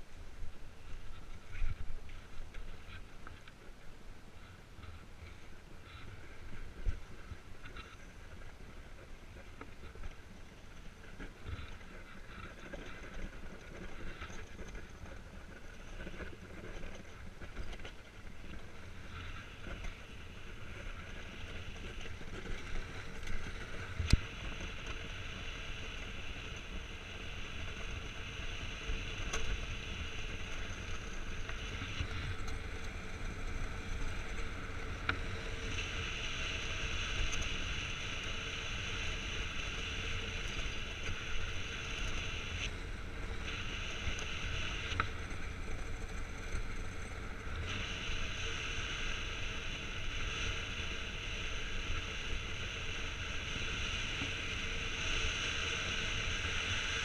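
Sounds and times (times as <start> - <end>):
runners gliding over ice: 0.0 - 57.0.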